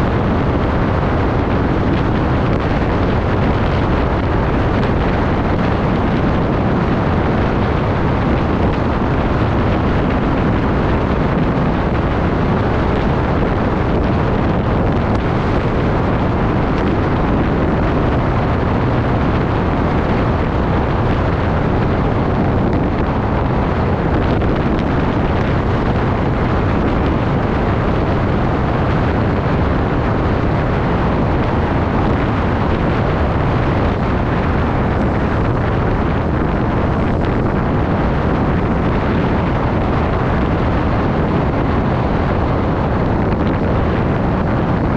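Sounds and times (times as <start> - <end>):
wind blowing across microphone: 0.0 - 44.9.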